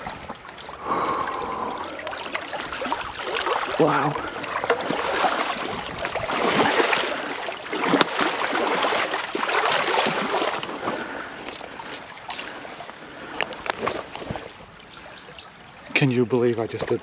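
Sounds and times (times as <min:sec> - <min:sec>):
water rushing over stones: 0:00.0 - 0:15.0.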